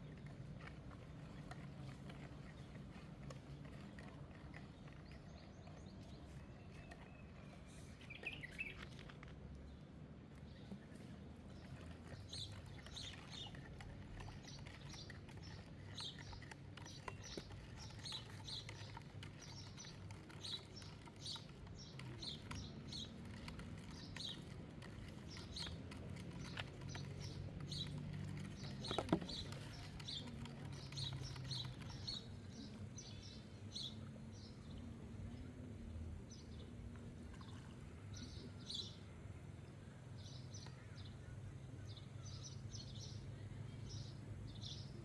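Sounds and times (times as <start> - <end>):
small birds chirping: 0.0 - 37.1, 38.0 - 45.0.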